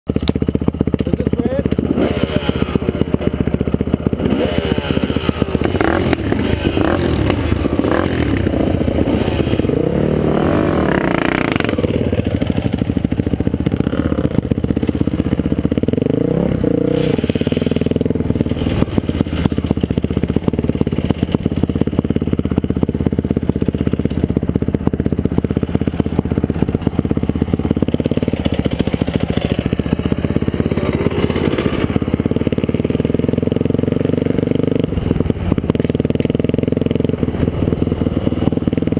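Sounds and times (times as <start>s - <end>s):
dirt bike engine revving: 0.1s - 38.9s
rattling over rough ground: 0.1s - 38.9s.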